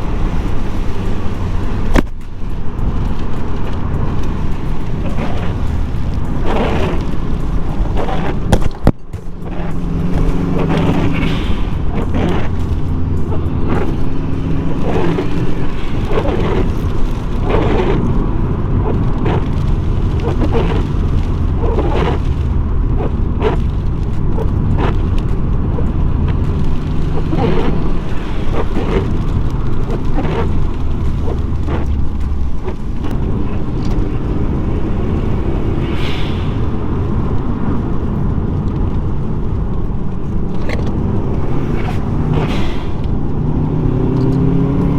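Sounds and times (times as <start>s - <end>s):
car engine: 0.0s - 44.9s
road noise: 0.0s - 44.9s.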